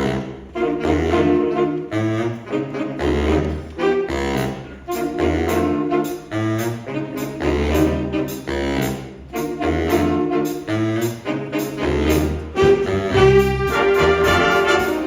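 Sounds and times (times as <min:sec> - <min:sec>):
big band swing music: 0:00.0 - 0:15.0.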